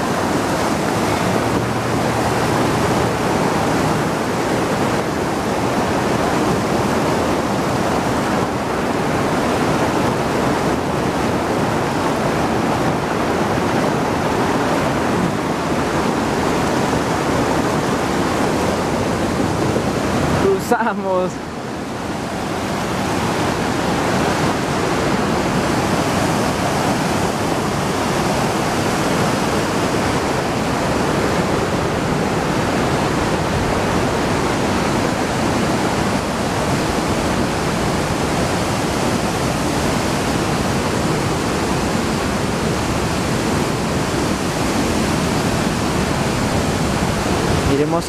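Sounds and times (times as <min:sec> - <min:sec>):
stream rushing over rocks: 0:00.0 - 0:48.0.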